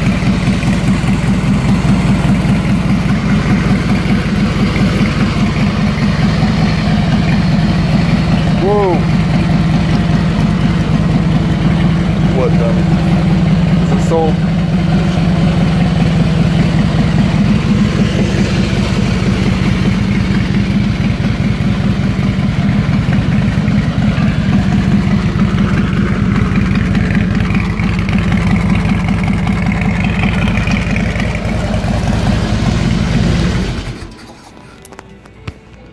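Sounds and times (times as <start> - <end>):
motorcycle engine idling: 0.0 - 34.4.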